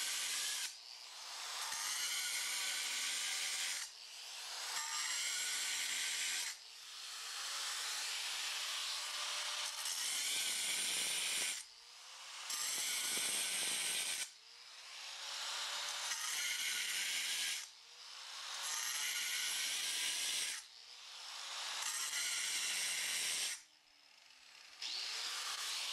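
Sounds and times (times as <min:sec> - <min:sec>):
angle grinder cutting stone: 0:00.0 - 0:14.3, 0:15.1 - 0:23.6, 0:24.7 - 0:25.9.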